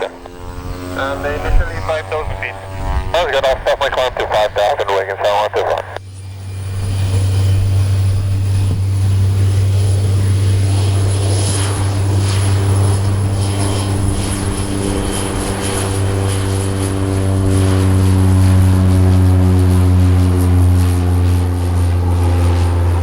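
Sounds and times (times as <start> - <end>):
turboprop aircraft propeller drone: 0.0 - 23.0.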